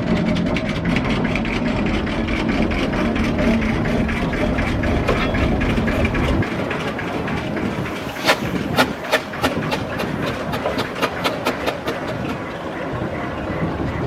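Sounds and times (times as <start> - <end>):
heavy vehicle engine rumbling: 0.0 - 14.0.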